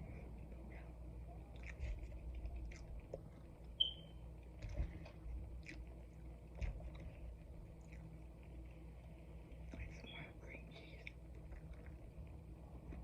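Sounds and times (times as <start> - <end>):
chewing soft food: 0.0 - 13.0.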